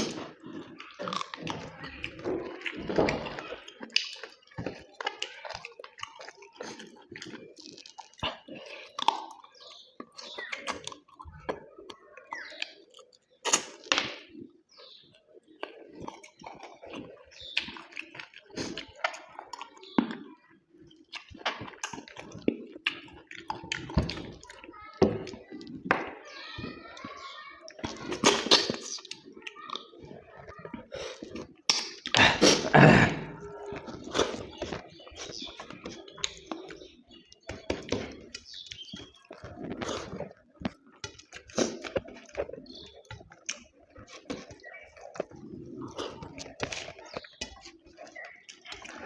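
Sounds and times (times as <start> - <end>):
chewing and wet mouth smacks: 0.0 - 14.6, 15.5 - 25.9, 27.0 - 49.0.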